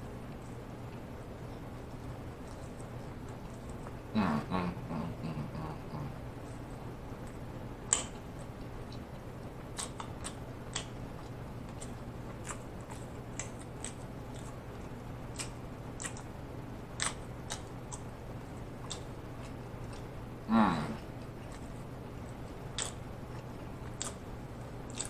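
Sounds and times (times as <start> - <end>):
steady low hum: 0.0 - 25.0
chewing with mouth closed: 0.3 - 4.1, 6.4 - 20.2, 21.0 - 25.0.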